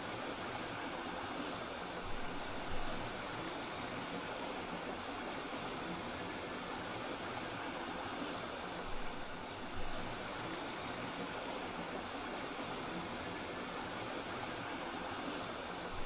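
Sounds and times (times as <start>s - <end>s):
stream water flowing over rocks: 0.0s - 16.0s.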